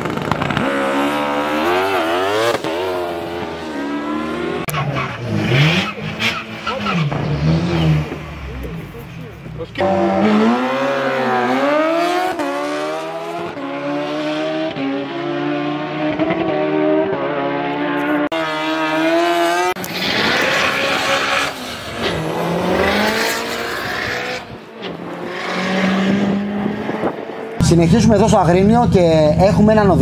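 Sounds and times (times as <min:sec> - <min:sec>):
motorcycle accelerating hard: 0:00.0 - 0:06.2, 0:09.8 - 0:27.6.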